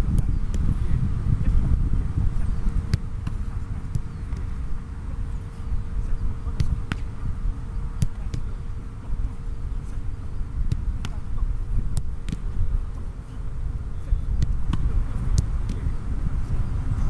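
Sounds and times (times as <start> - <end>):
faint steady hum: 0.0 - 17.0
wind on microphone: 0.0 - 17.0.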